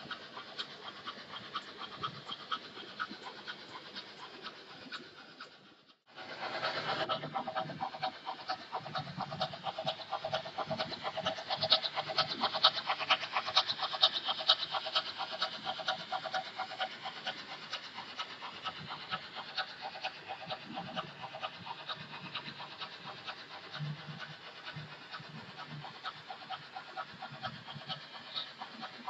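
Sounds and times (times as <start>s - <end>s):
model train motor hum: 0.0s - 29.0s
model train wheels clattering: 0.0s - 29.0s.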